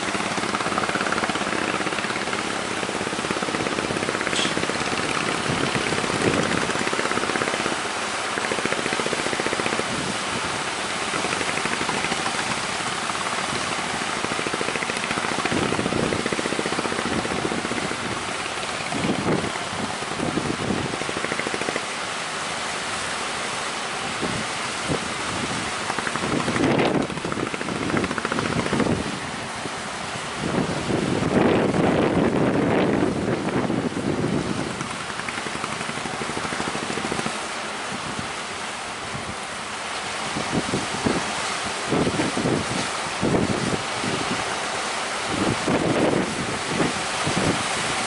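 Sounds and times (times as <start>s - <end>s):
wind buffeting microphone: 0.0s - 22.0s, 24.0s - 48.0s
speedboat on water: 0.0s - 48.0s.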